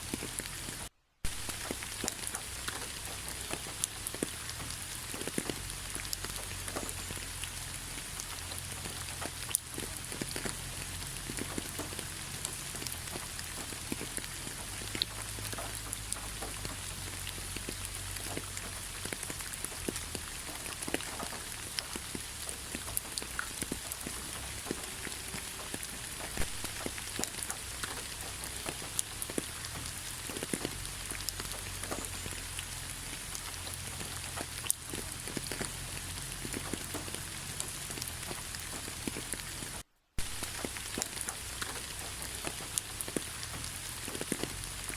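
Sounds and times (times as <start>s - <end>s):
raindrops tapping: 0.0s - 44.9s
steady rain hiss: 0.0s - 44.9s.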